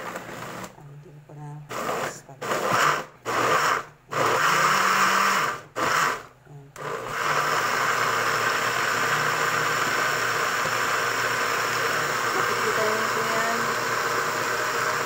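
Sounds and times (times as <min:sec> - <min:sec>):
blender churning fruit: 0:00.0 - 0:00.8, 0:01.7 - 0:15.0.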